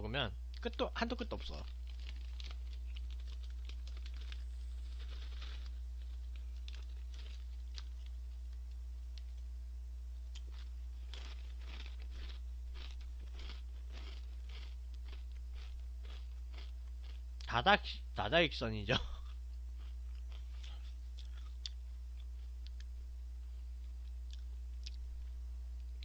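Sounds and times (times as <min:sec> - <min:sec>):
low electrical hum: 0:00.0 - 0:26.0
man chewing crisp crackers: 0:01.3 - 0:09.5, 0:10.2 - 0:17.5, 0:19.2 - 0:23.0, 0:23.7 - 0:26.0.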